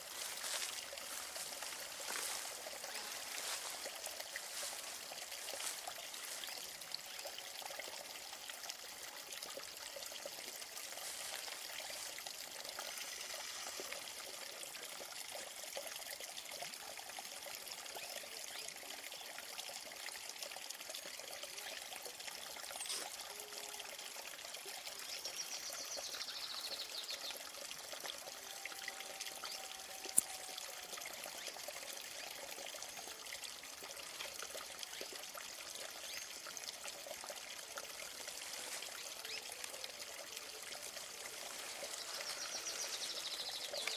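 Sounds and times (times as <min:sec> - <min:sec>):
water trickling: 0:00.0 - 0:43.9.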